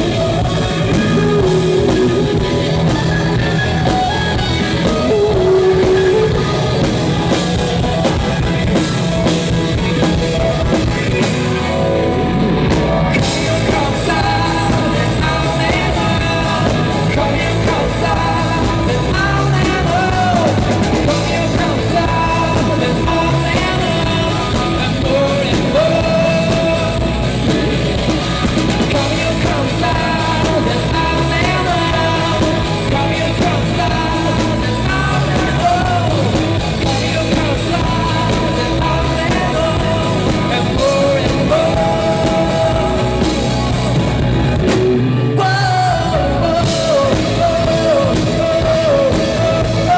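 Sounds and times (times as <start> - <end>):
drum kit: 0.0 - 49.9
guitars: 0.0 - 49.9
lead singer: 0.0 - 49.9.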